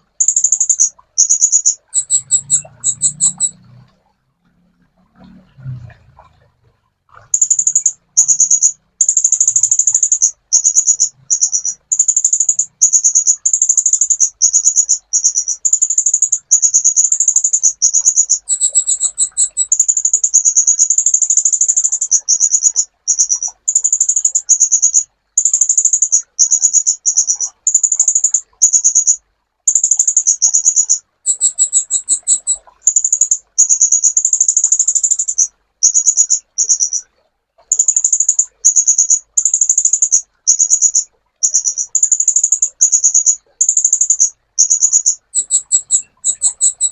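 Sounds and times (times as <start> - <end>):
sunbird song trills: 0.0 - 3.8, 7.4 - 37.0, 37.7 - 46.9.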